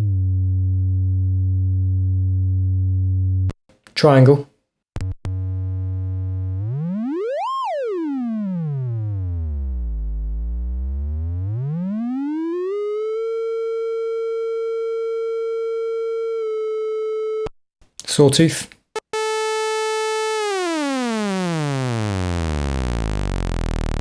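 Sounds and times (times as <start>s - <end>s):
buzzy oscillator tone sweeping: 0.0s - 3.6s, 5.0s - 17.4s, 19.0s - 24.0s.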